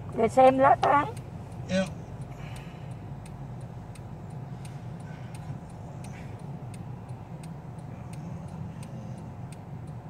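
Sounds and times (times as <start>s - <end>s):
light ticking: 0.0s - 10.0s
road and engine rumble: 0.0s - 10.0s.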